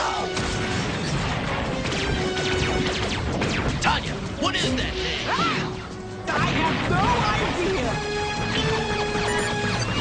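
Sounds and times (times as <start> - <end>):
fast action music: 0.0 - 10.0.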